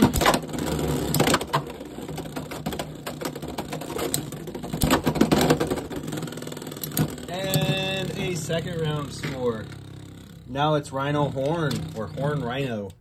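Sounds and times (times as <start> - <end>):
spinning tops whirring: 0.0 - 12.9.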